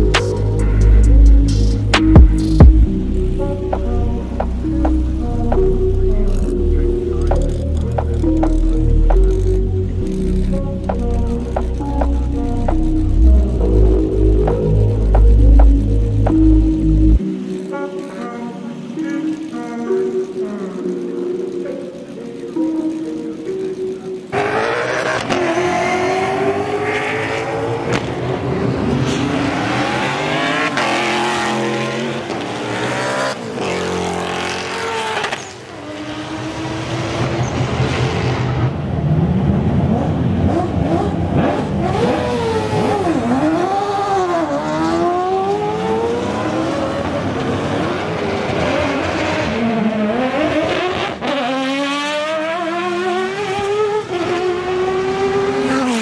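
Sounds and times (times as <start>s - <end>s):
racing car engines passing: 0.0s - 56.0s.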